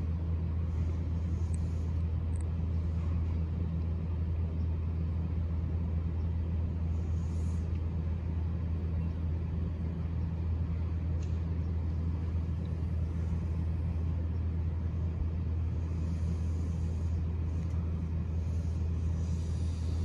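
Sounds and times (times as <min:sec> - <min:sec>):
electric train equipment hum: 0:00.0 - 0:20.0.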